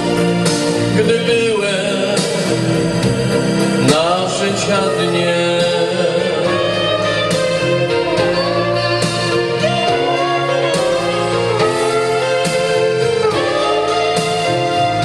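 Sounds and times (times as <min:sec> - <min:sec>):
guitar accompaniment: 0:00.0 - 0:15.0
person singing: 0:00.0 - 0:15.0.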